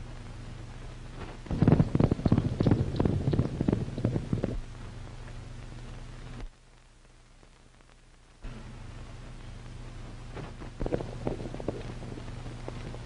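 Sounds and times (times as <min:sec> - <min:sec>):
film soundtrack hiss and hum: 0:00.0 - 0:13.0.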